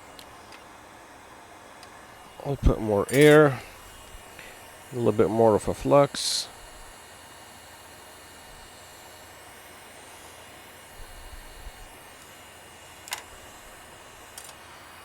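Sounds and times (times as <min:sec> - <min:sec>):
hot air station hissing: 0:02.0 - 0:15.0.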